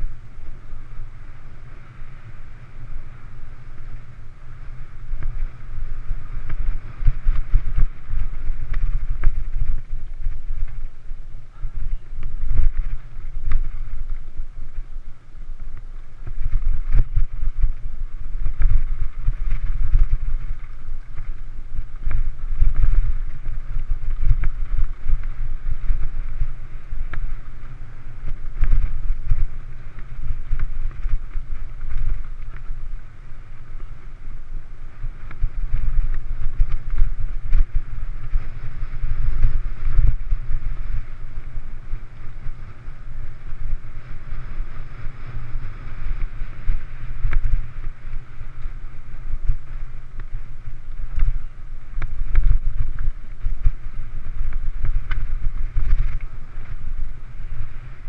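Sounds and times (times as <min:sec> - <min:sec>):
bike knocking and rattling: 0:00.0 - 0:58.0
bike tyres on dirt: 0:00.0 - 0:58.0
wind rumble on microphone: 0:00.0 - 0:58.0.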